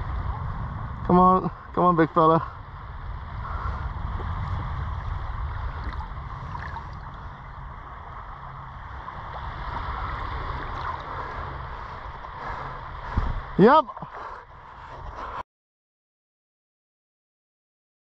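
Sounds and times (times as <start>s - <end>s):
steady low rumble: 0.0s - 15.4s
water swishing and lapping: 0.0s - 15.4s.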